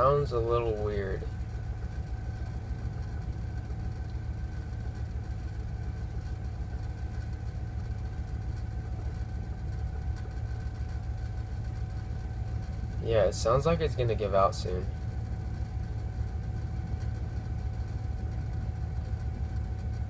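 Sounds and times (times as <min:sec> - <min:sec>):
van engine idling: 0:00.0 - 0:20.0.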